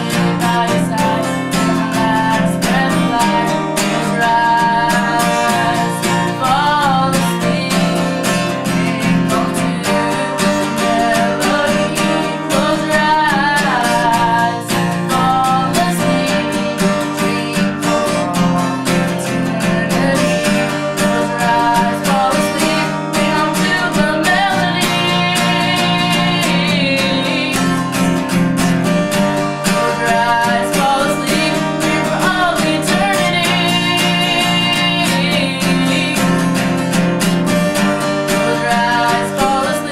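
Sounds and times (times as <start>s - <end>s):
person singing: 0.0s - 39.9s
strummed acoustic guitar: 0.0s - 39.9s.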